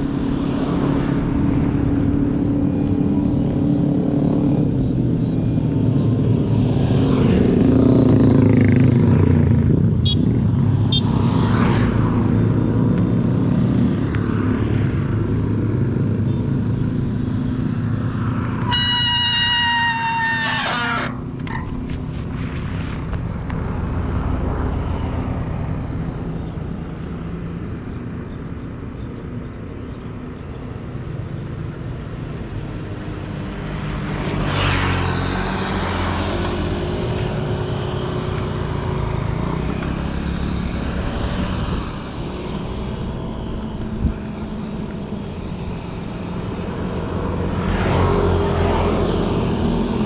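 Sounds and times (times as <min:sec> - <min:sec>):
motor traffic: 0:00.0 - 0:50.0.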